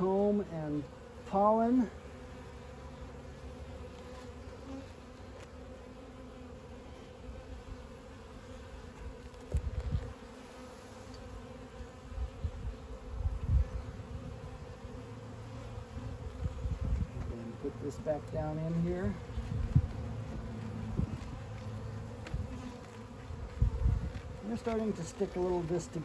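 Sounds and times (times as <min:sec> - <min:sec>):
honey bees buzzing: 0:00.0 - 0:26.0.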